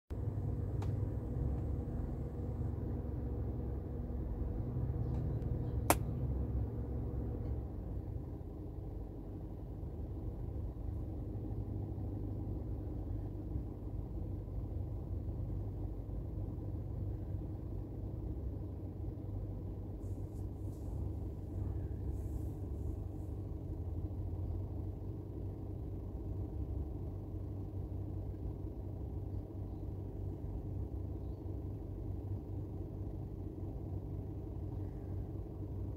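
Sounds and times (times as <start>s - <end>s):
faint engine hum: 0.1s - 35.9s
low rumble in car cabin: 0.1s - 35.9s.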